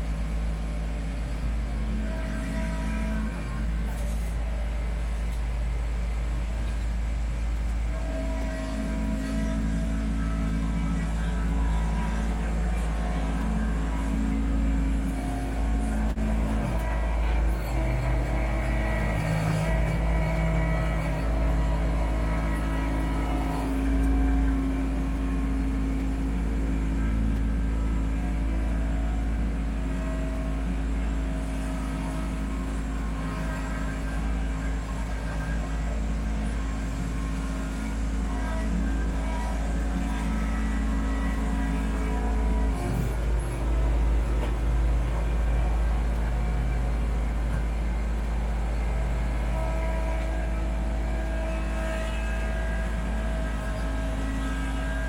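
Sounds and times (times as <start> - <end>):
tractor diesel engine running: 0.0 - 55.0
higher steady tone: 6.6 - 55.0.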